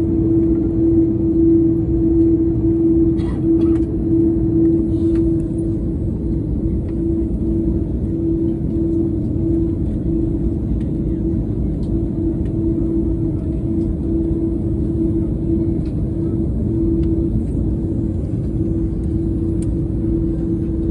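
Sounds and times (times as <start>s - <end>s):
airliner engines rumbling in cabin: 0.0s - 20.9s
constant cabin hum: 0.0s - 20.9s.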